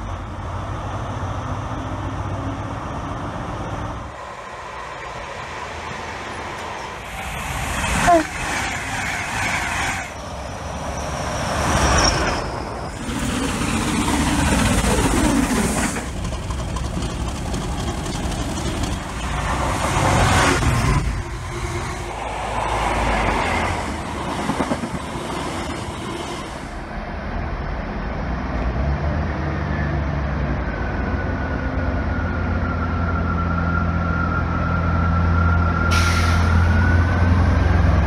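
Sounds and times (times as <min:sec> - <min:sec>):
diesel locomotive: 0:00.0 - 0:38.0
trains passing: 0:00.0 - 0:38.0.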